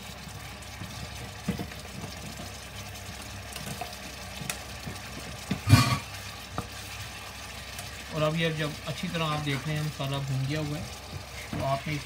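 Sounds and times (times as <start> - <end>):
curry frying and sizzling: 0.0 - 12.0.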